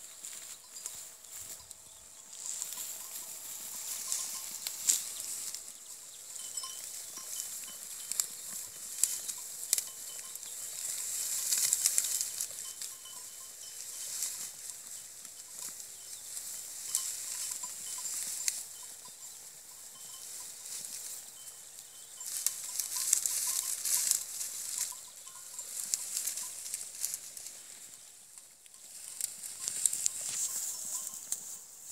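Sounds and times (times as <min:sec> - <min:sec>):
sheep chewing dry grass: 0:00.0 - 0:31.9.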